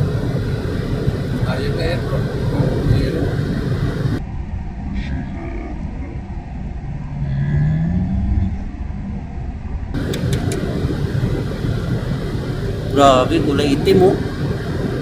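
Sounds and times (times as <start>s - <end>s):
car road and engine noise: 0.0s - 15.0s
rising hum: 0.0s - 15.0s.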